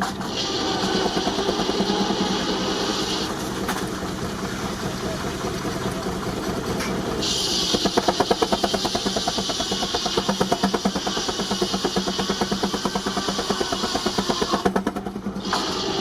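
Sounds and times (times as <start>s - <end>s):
steam engine hiss: 0.0s - 16.0s
quick regular engine beat: 0.3s - 15.6s.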